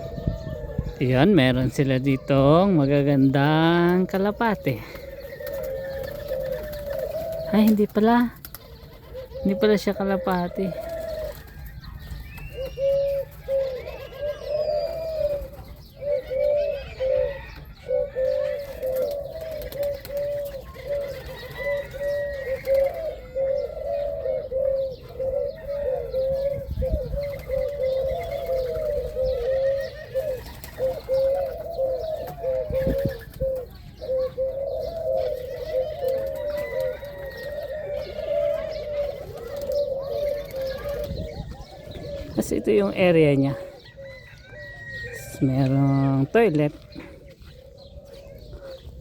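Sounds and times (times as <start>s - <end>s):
doves cooing: 0.0s - 49.0s
small birds chirping: 0.0s - 49.0s.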